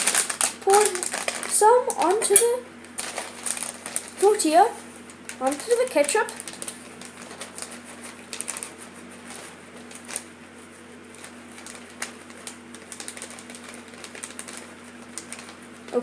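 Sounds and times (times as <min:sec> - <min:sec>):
faint steady hum: 0:00.0 - 0:16.0
plastic bag crinkling: 0:00.0 - 0:16.0.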